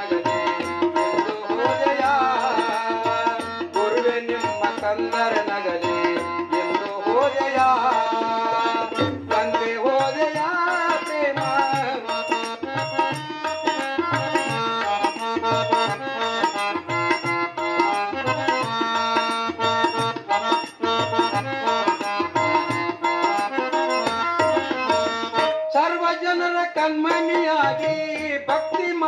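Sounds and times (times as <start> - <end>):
harmonium chords: 0.0 - 29.0
tabla rhythm: 0.0 - 29.0.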